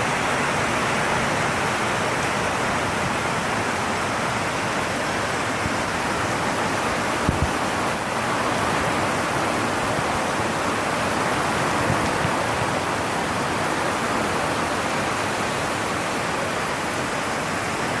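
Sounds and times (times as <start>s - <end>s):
heavy rain on a tin roof: 0.0s - 18.0s.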